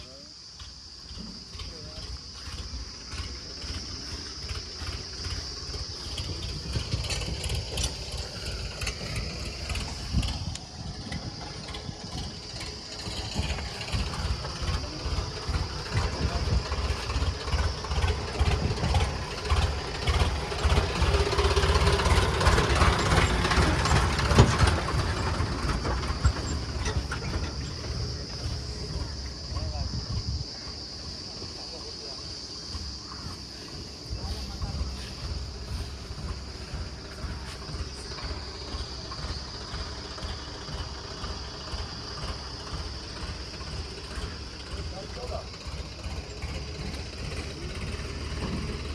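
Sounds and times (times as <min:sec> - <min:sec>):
truck engine throbbing: 0:00.0 - 0:48.9.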